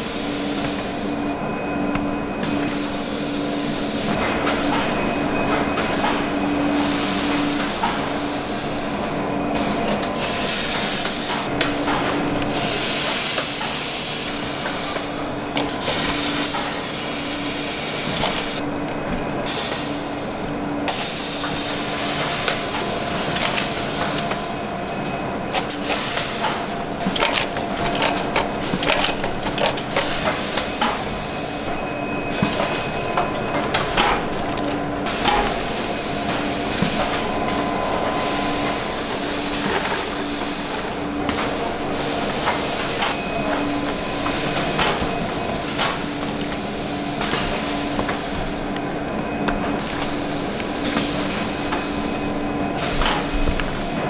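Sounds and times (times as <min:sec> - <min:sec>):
machine hiss: 0:00.0 - 0:01.5, 0:02.1 - 0:18.6, 0:19.4 - 0:54.0
machinery hum with pulsing tone: 0:00.0 - 0:54.0.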